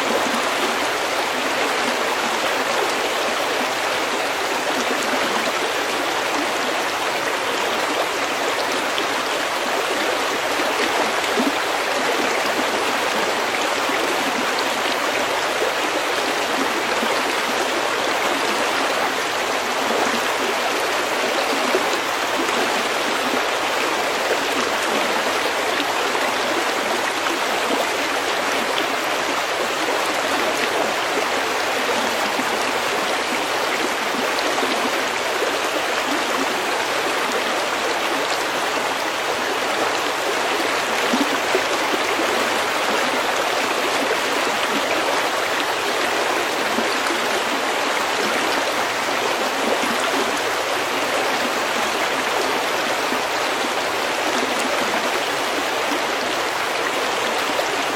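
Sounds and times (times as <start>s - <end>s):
stream water flowing over pebbles: 0.0s - 57.9s.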